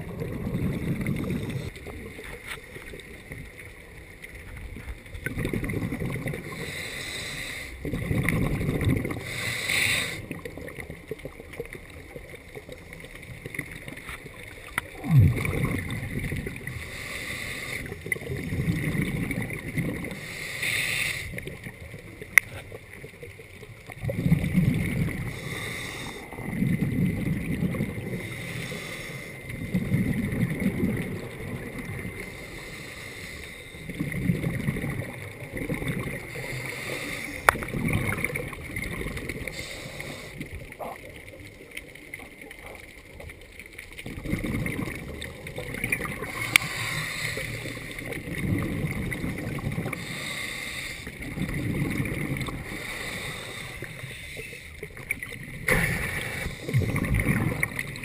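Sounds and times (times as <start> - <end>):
exhaled bubbles gurgling underwater: 0.0 - 58.0.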